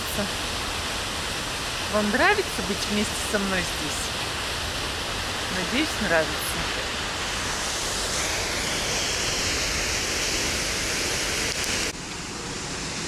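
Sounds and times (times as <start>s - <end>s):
rush of falling water: 0.0s - 13.0s.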